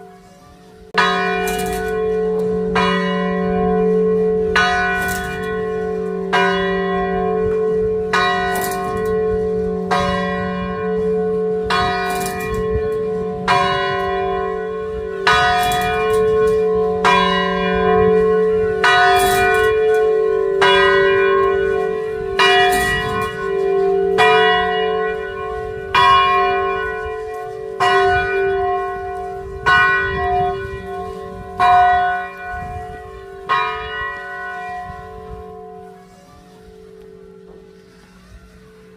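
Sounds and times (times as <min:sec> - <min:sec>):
church bell tolling: 0:00.0 - 0:38.9.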